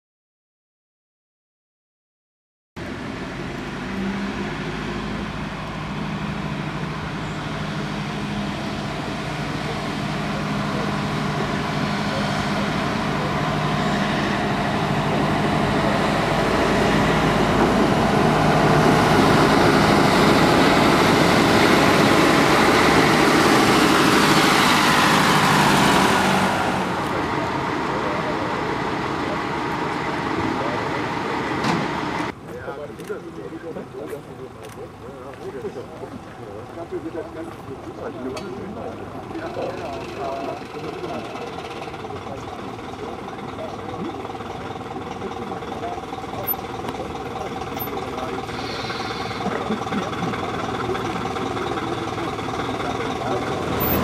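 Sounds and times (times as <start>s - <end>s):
diesel locomotive engine humming: 2.8s - 54.0s.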